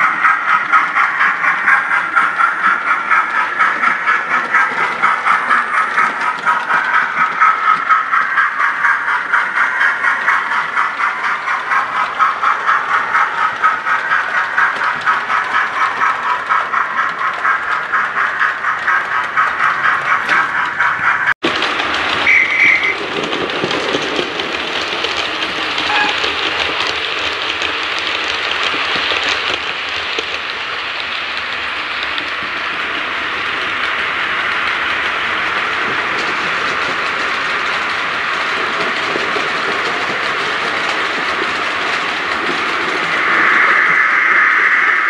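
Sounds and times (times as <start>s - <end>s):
model train rattling on rails: 0.0s - 45.0s.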